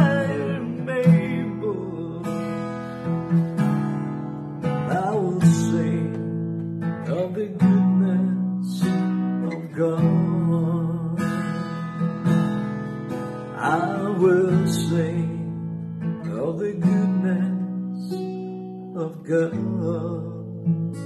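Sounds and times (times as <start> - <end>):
man singing: 0.0 - 2.8, 4.6 - 11.9, 13.4 - 21.0
acoustic guitar strumming chords: 0.0 - 21.0.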